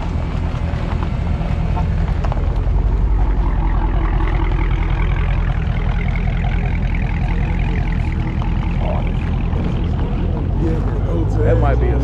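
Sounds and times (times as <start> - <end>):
car engine deep exhaust rumble: 0.0 - 12.0.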